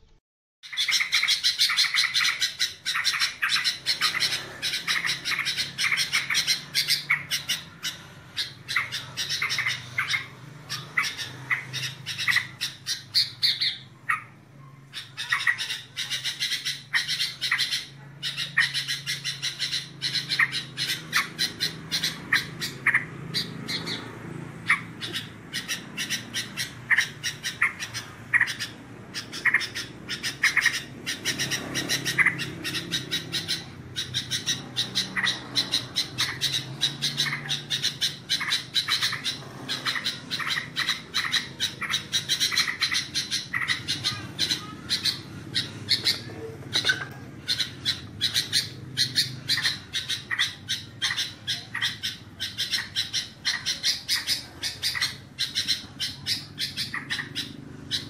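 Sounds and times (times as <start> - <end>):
bulbul chattering: 0.6 - 58.0.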